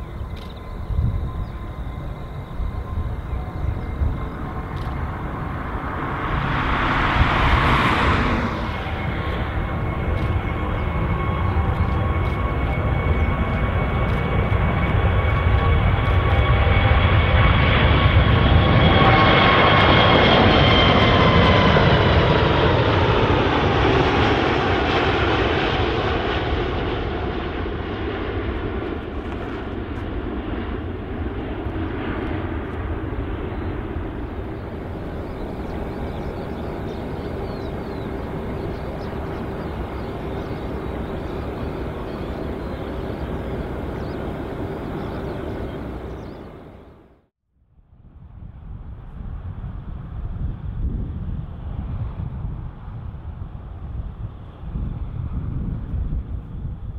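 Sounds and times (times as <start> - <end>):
jet airliner passing by: 0.0 - 56.9.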